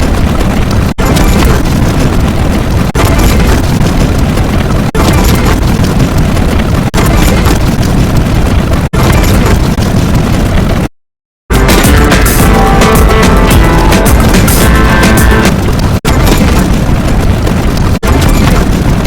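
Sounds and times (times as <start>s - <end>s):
rumbling explosion sound effect: 0.0s - 10.9s, 11.5s - 19.0s.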